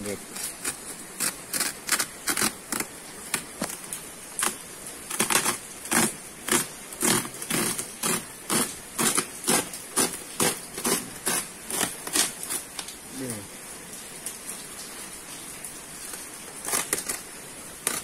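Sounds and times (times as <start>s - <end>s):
plastic sack tearing: 0.0s - 13.0s, 16.0s - 18.0s.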